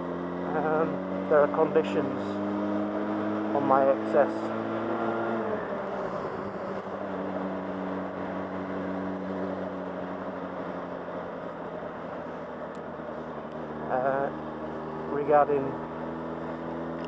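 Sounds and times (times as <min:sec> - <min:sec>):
motorcycle engine drone: 0:00.0 - 0:17.0.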